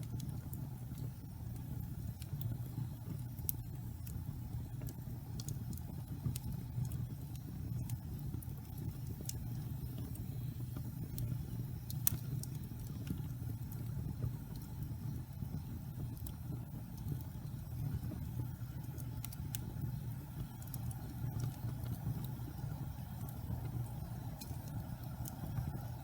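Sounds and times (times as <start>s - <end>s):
fire flames roaring: 0.0s - 26.0s
wood fire crackling and popping: 0.0s - 26.0s.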